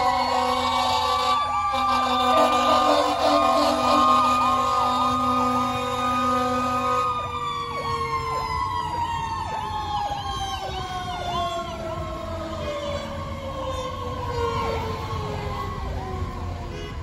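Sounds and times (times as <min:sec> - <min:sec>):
electronic siren yelping: 0:00.0 - 0:16.4
siren winding down: 0:00.0 - 0:16.5.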